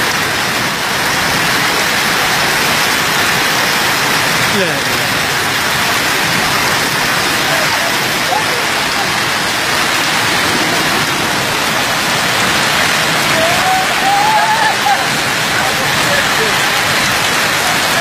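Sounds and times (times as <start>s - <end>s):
heavy rain and running floodwater: 0.0s - 18.0s.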